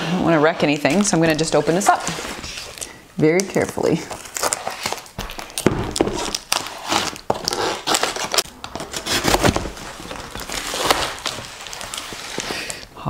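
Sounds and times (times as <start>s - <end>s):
plastic wrapping crinkling: 0.6s - 13.0s.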